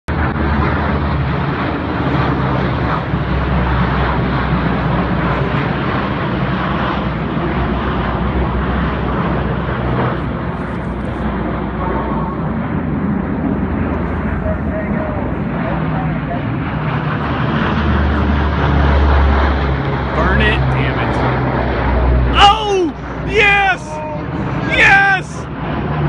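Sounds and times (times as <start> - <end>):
aircraft engines droning: 0.1 - 26.0.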